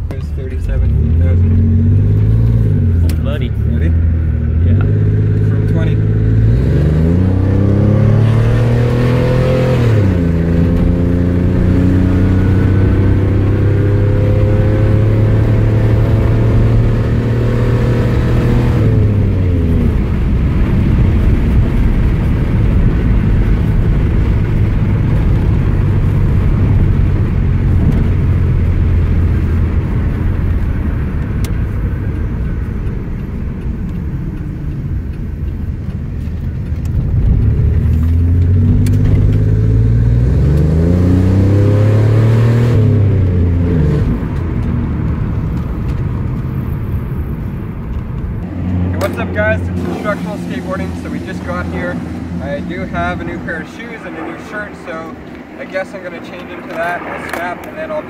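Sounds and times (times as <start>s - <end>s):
car engine accelerating hard: 0.0s - 58.0s
road rumble: 0.0s - 58.0s.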